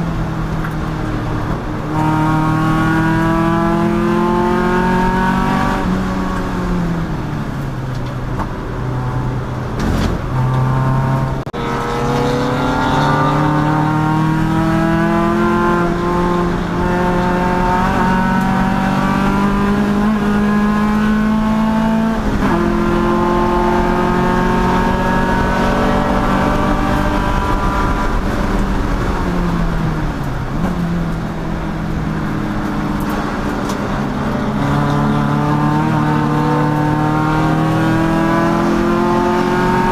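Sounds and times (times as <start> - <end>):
race car engine revving: 0.0 - 7.2, 8.8 - 39.9.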